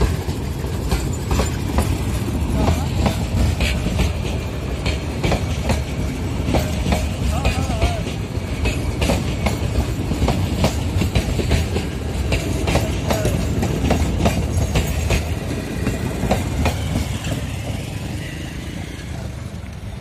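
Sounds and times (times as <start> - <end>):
train coaches rumbling past: 0.0 - 20.0
wheels clicking over rail joints: 0.0 - 20.0.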